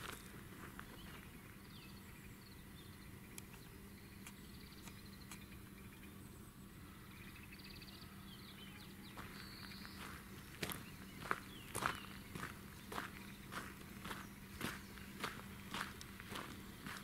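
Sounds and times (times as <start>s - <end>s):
songbird trills and chirps: 0.0s - 17.0s.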